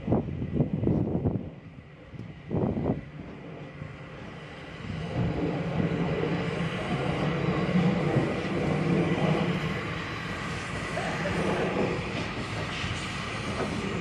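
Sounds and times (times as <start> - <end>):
steam locomotive exhaust chuffs: 0.0 - 14.0
steam hissing: 0.4 - 14.0.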